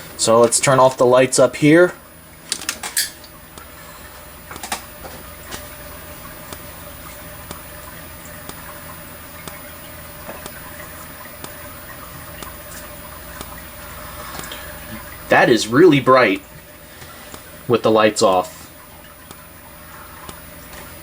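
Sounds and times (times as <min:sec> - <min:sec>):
steady hum and hiss: 0:00.0 - 0:21.0
faint ticking: 0:03.3 - 0:21.0.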